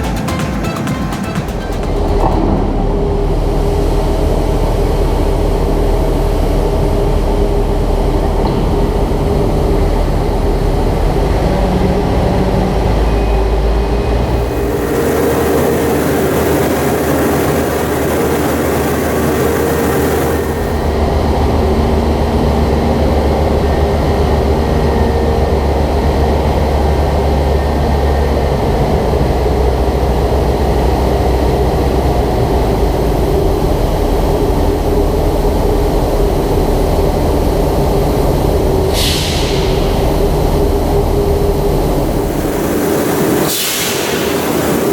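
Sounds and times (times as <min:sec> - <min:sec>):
diesel farm machinery rumbling: 0:00.0 - 0:44.9.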